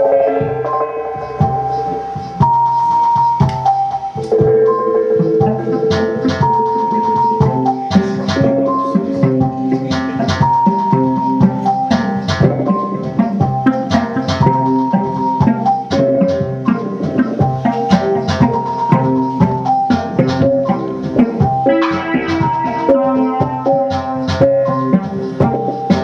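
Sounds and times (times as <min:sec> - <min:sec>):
drum and percussion beat: 0:00.0 - 0:26.0
long held melodic notes: 0:00.0 - 0:26.0.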